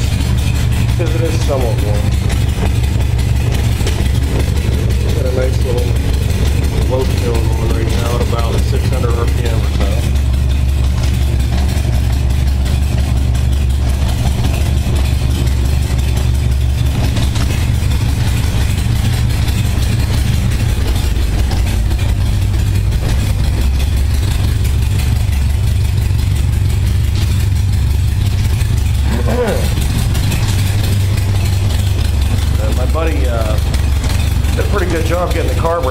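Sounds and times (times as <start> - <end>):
motorcycle engine idling: 0.0 - 35.9.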